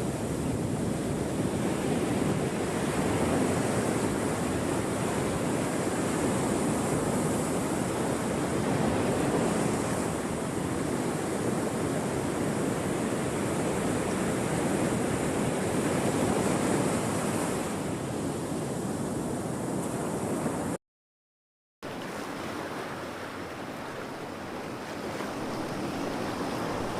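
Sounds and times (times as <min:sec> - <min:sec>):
ocean waves breaking on shore: 0:00.0 - 0:20.8, 0:21.8 - 0:26.9.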